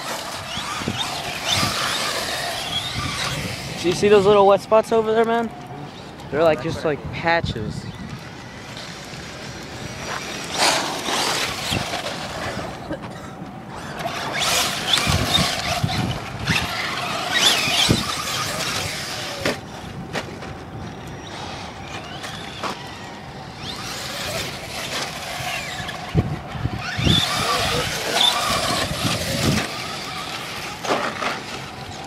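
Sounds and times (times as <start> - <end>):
rc truck motors whining: 0.0 - 6.9, 7.5 - 32.0
gritty noise: 0.0 - 32.0.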